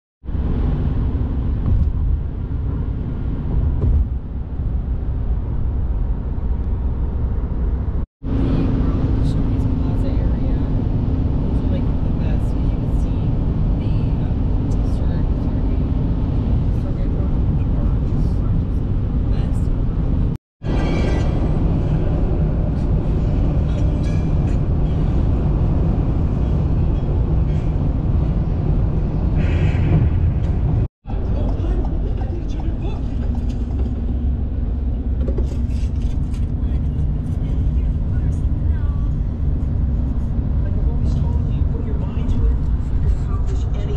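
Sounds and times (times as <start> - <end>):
car cabin road noise: 0.3 - 43.9.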